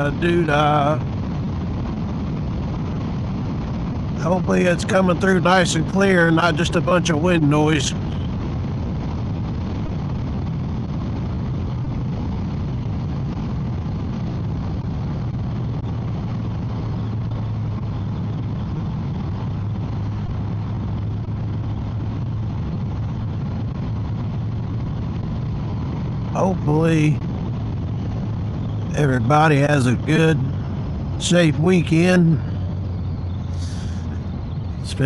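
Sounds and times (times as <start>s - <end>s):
motorcycle engine hum: 0.0s - 35.0s
wind rushing: 0.0s - 35.0s.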